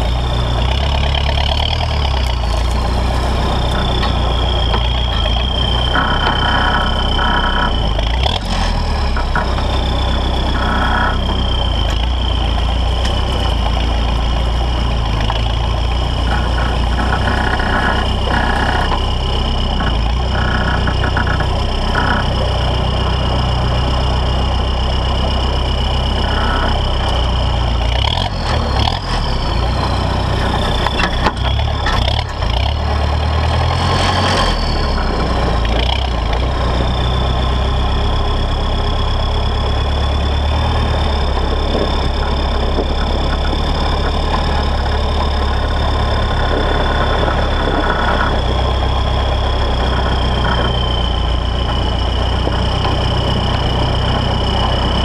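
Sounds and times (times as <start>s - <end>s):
diesel engine droning: 0.0s - 55.0s
high whine: 0.0s - 55.0s.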